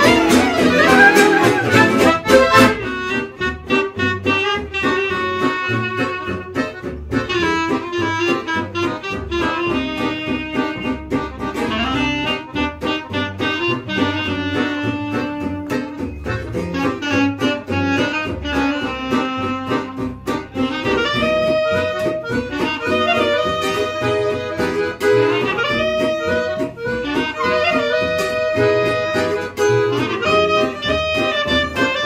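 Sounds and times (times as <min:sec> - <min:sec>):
accordion: 0:00.0 - 0:32.0
clarinet: 0:00.0 - 0:32.0
double bass: 0:00.0 - 0:32.0
plucked guitar: 0:00.0 - 0:32.0.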